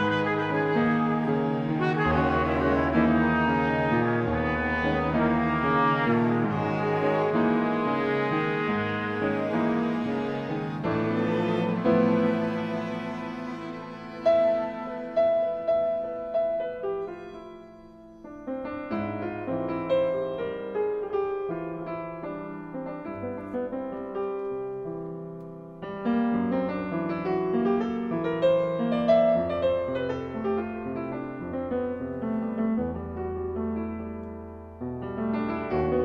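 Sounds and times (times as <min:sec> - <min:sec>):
grand piano playing: 0:00.0 - 0:36.0.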